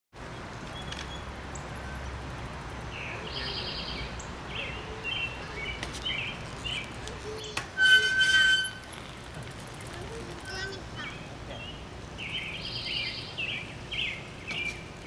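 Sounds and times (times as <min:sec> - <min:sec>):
songbirds chirping: 0:00.2 - 0:07.8, 0:09.7 - 0:15.0.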